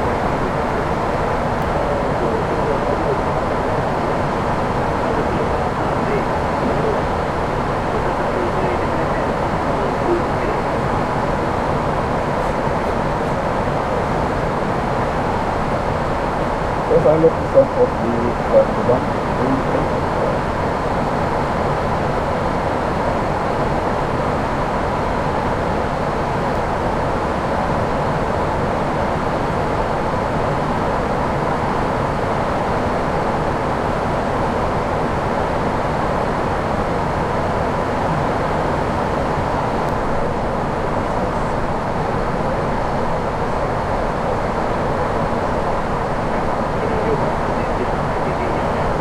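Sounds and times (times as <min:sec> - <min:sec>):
airflow rushing around cockpit: 0:00.0 - 0:49.0.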